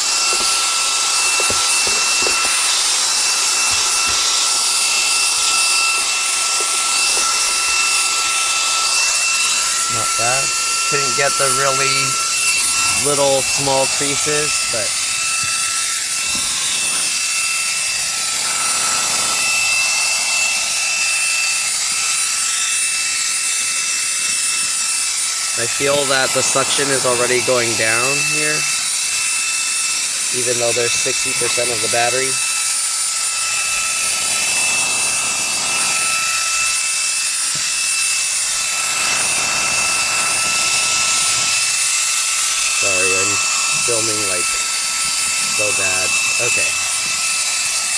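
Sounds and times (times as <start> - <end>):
handheld vacuum running: 0.0 - 47.9.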